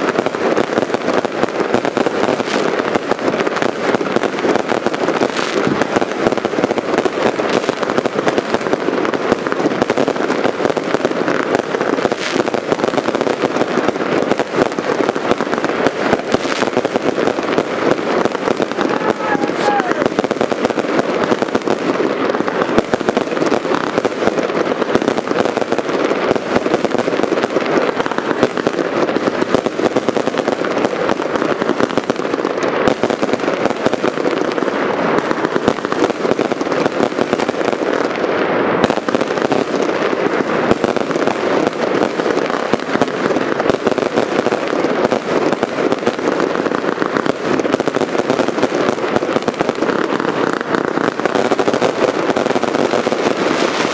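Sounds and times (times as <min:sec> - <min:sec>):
fireworks crackling and popping: 0:00.0 - 0:53.9.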